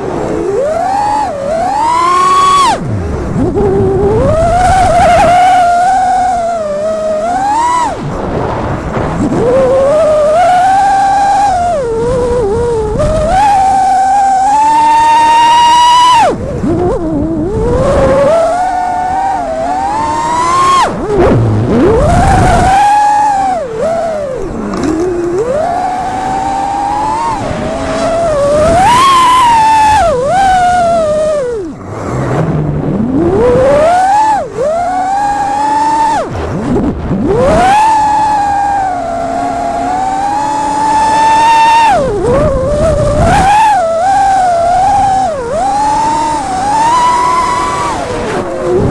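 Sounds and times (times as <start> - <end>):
quadcopter motors whining: 0.0 - 48.9.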